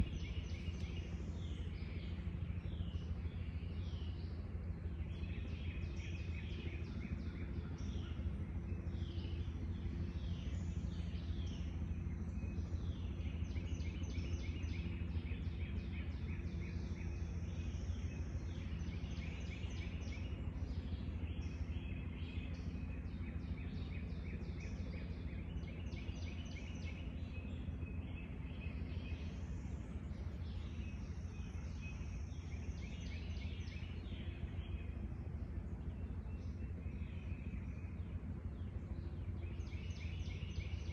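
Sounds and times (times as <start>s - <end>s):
songbirds singing: 0.0s - 40.9s
steady low hum: 0.0s - 40.9s.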